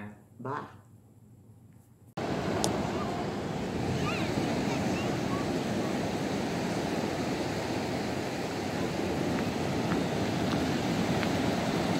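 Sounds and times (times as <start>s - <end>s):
ocean surf on sandy beach: 2.2s - 11.9s
wind rumbling on microphone: 2.2s - 11.9s.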